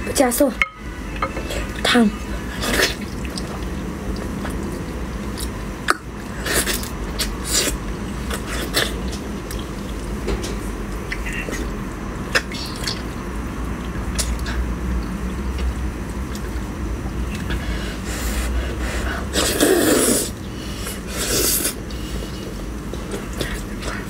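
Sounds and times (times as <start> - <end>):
person chewing meat: 2.4 - 24.0.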